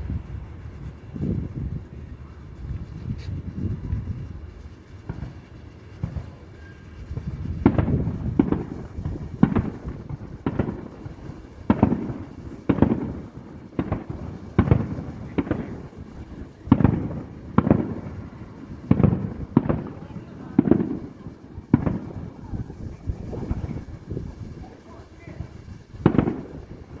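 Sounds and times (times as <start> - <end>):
firework shells booming: 3.3 - 27.0.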